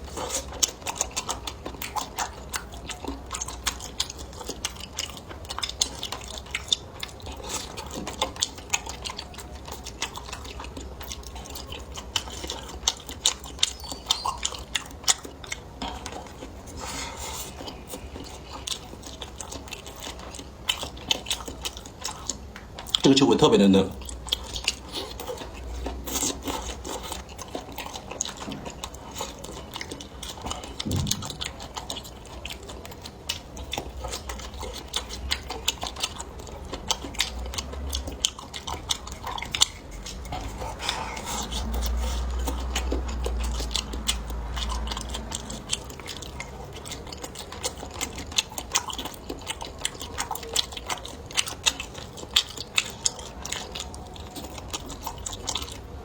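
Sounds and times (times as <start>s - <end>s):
mouth chewing and biting food: 0.0s - 56.0s.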